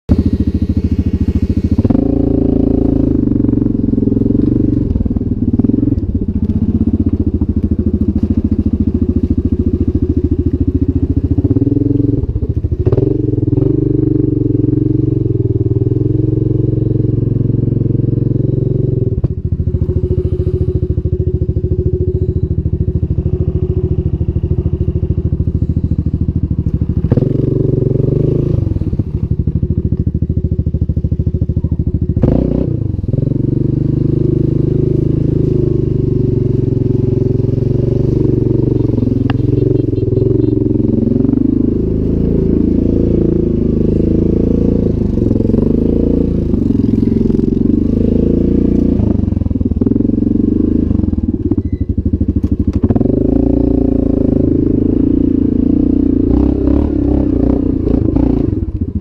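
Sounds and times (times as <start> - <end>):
quad engine revving: 0.1 - 59.0.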